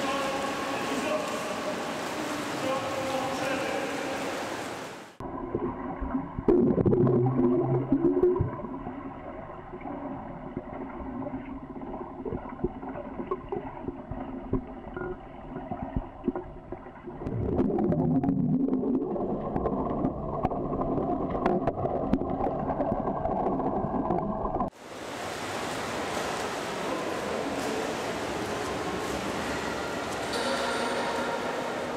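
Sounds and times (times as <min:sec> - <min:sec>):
muffled underwater swimming strokes: 0:00.0 - 0:31.9
steady underwater hum: 0:00.0 - 0:31.9.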